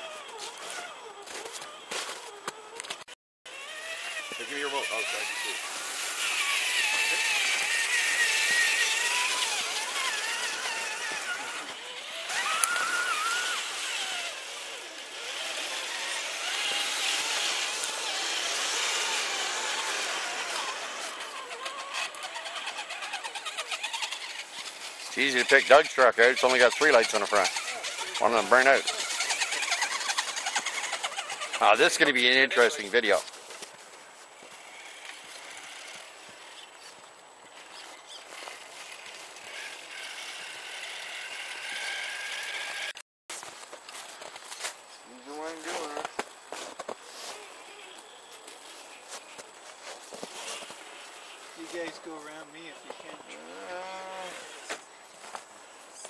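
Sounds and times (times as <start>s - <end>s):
electric motors whining: 0.0s - 33.7s, 34.4s - 43.0s, 47.3s - 55.4s.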